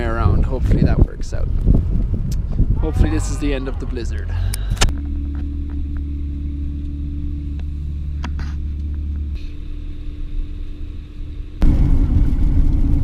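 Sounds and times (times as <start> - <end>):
van engine and road rumble: 0.0 - 2.8, 4.2 - 13.0.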